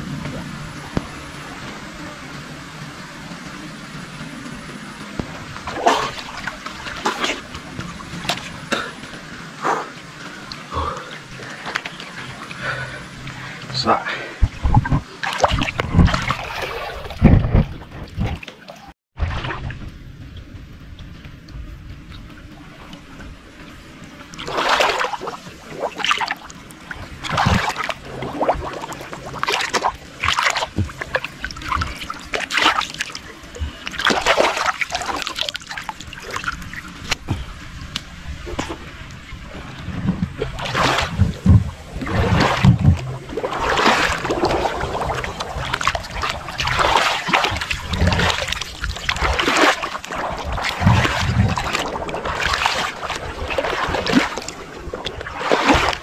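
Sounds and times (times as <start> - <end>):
muddy water splashing: 5.0 - 21.2, 21.9 - 56.0.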